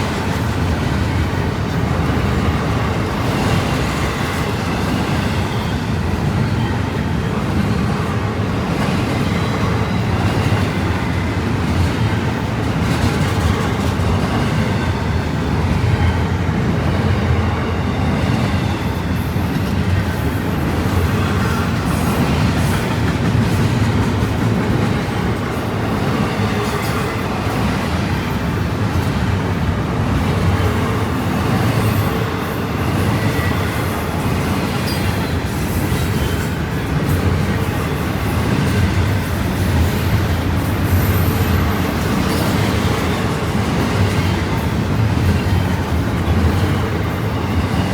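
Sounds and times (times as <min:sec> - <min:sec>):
freight train rolling past: 0:00.0 - 0:47.9
steel wheels rumbling on rail: 0:00.0 - 0:47.9.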